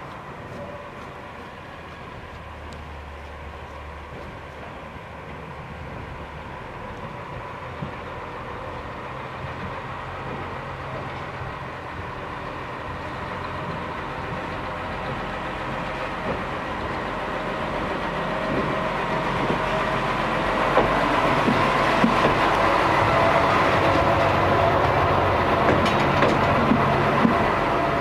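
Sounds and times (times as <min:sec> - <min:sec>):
rail motor car engine running: 0:00.0 - 0:28.0
wheels knocking on rail joints: 0:00.0 - 0:28.0.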